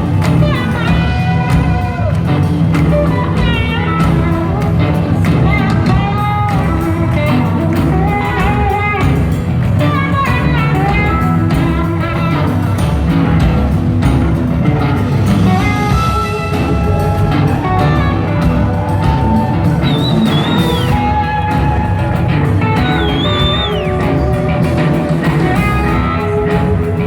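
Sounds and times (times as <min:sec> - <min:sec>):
bass and drums: 0:00.0 - 0:27.0
electric guitar with pitch bends: 0:00.0 - 0:27.0.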